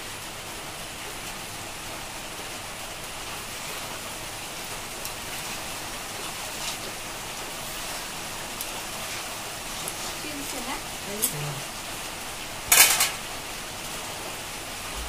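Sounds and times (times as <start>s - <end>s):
curry sizzling in a wok: 0.0s - 14.9s.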